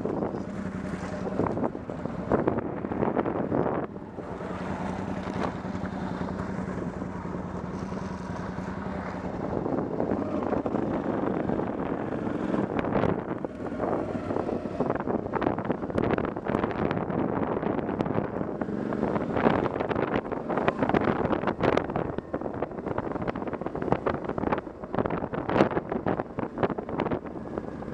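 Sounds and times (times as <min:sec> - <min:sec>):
motorcycle engine: 0:00.0 - 0:27.9
wind buffeting the microphone: 0:00.0 - 0:27.9.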